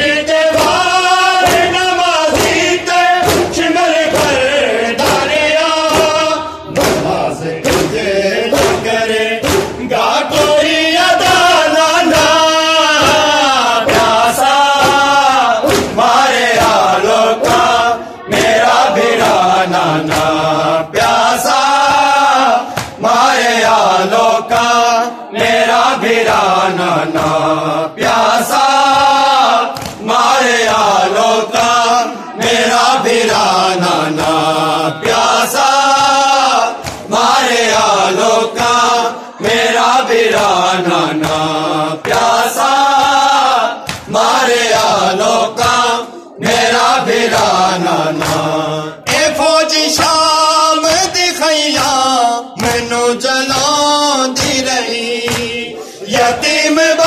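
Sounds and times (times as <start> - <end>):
men chanting a lament: 0.0 - 57.0.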